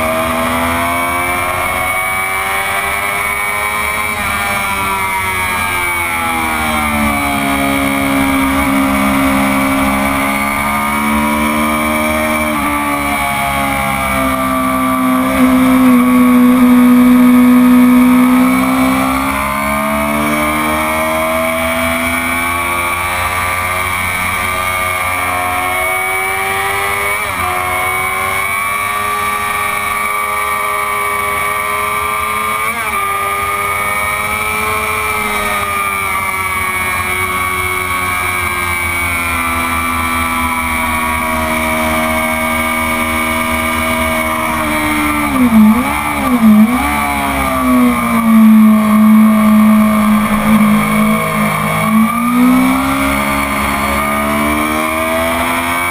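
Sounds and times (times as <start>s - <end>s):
motorcycle engine at high revs: 0.0s - 55.9s.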